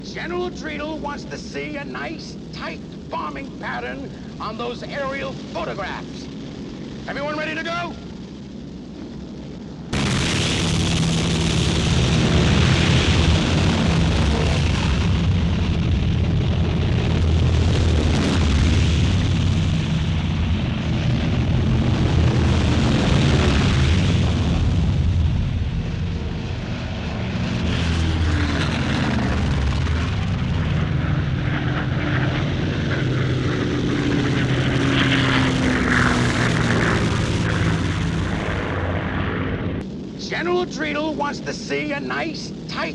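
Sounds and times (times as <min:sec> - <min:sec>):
aircraft passing: 0:00.0 - 0:42.9
propeller aircraft engines droning: 0:00.0 - 0:42.9.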